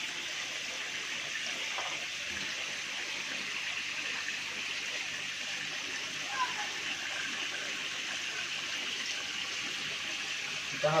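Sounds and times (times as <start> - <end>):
water pouring into fish tank: 0.0 - 11.0.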